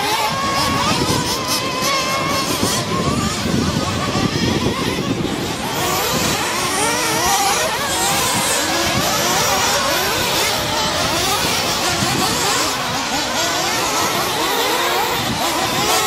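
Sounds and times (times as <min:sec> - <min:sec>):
rc truck motors revving: 0:00.0 - 0:16.0.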